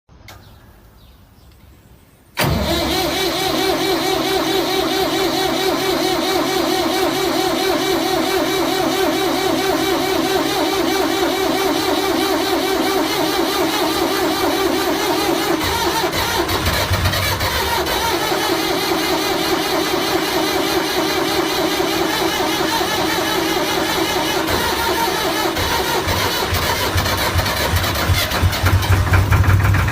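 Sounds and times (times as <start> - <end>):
loud engine-like running noise: 2.4 - 29.9.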